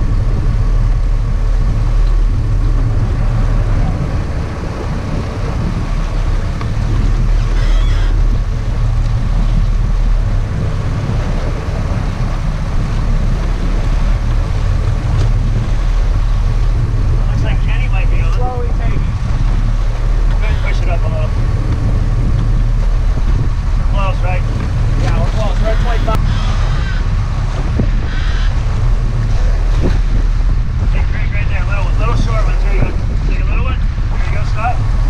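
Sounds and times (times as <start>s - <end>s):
boat engines droning: 0.0s - 35.0s
rushing water: 0.0s - 35.0s
wind: 0.0s - 35.0s.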